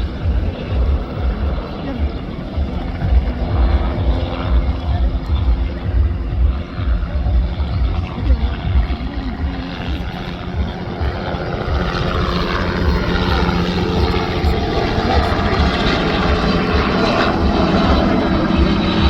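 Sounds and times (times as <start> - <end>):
helicopter rotor pulsing: 0.0 - 19.0
turbine engine whine: 0.0 - 19.0.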